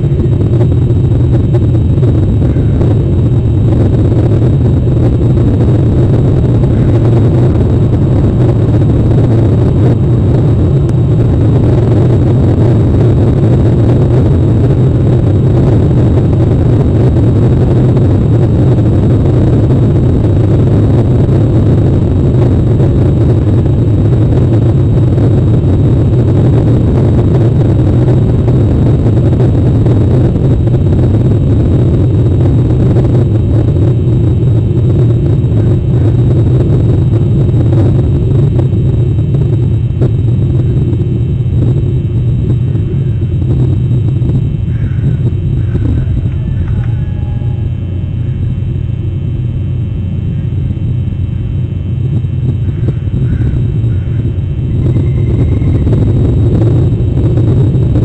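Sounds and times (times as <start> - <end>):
faint high whine: 0.0 - 58.0
low rumbling noise: 0.0 - 58.0.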